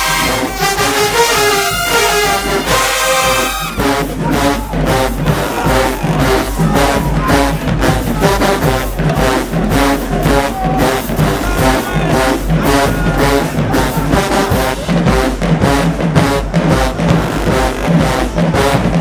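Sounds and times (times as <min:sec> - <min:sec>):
drumline steady beat: 0:00.0 - 0:19.0
marching band brass section: 0:00.0 - 0:19.0.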